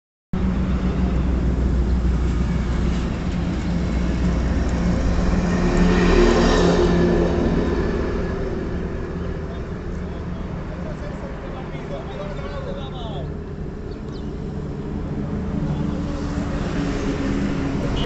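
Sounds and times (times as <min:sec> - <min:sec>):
vehicle engine passing by: 0:00.4 - 0:18.0.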